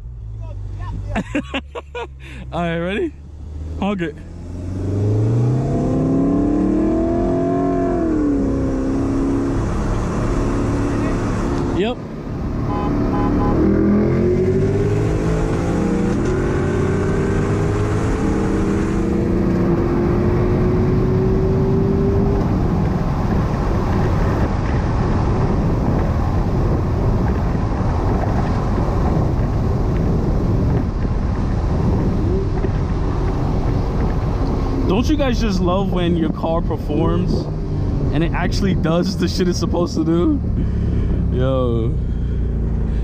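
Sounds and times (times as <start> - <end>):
car engine at full throttle: 0.0 - 43.0
wind and road noise: 0.0 - 43.0.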